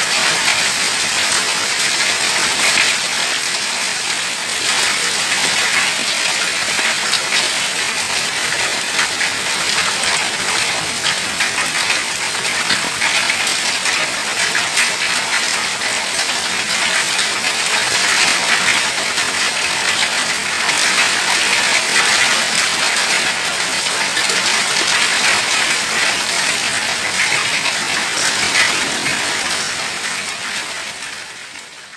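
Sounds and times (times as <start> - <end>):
hailstones pelting hard surfaces: 0.0 - 31.9
rain hissing: 0.0 - 31.9.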